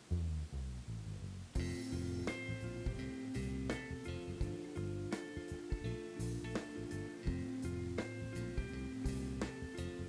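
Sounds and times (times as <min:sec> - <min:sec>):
instrumental music with steady beat: 0:01.3 - 0:10.0.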